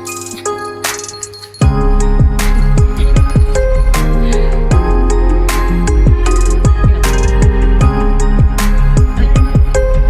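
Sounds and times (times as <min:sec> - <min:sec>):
electronic beat music: 0:00.0 - 0:10.0.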